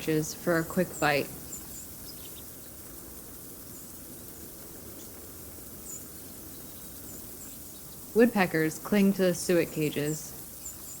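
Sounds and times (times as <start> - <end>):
outdoor background hiss: 0.0 - 11.0
songbirds chirping: 0.0 - 11.0.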